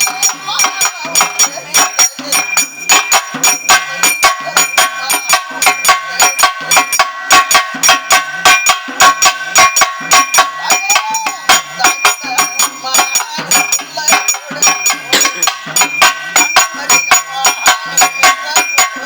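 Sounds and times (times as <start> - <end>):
fast drum strokes: 0.0 - 19.0
ringing metallic tones: 0.0 - 19.0.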